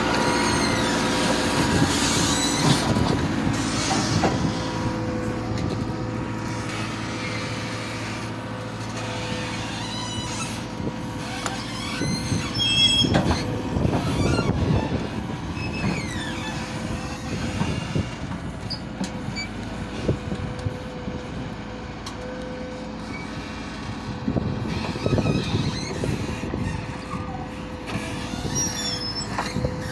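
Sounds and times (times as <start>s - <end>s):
metal squeals and clanks: 0.0s - 5.8s, 6.4s - 20.1s, 24.6s - 29.9s
diesel engine running: 0.0s - 29.9s.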